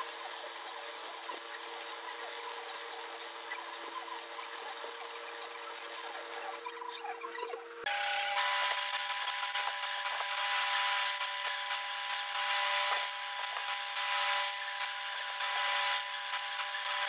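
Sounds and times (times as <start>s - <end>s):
drill bit grinding metal: 0.0s - 6.6s, 7.8s - 17.0s
drill press motor whine: 0.0s - 17.0s.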